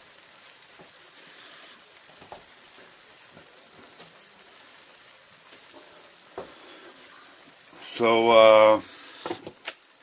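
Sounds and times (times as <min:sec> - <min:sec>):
small pops and crackles: 0:00.0 - 0:07.8, 0:09.1 - 0:10.0
food sizzling in frying pan: 0:00.0 - 0:10.0.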